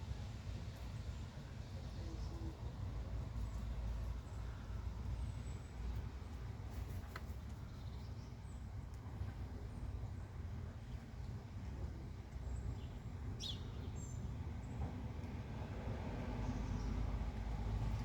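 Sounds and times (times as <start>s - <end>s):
low city rumble: 0.0s - 18.0s.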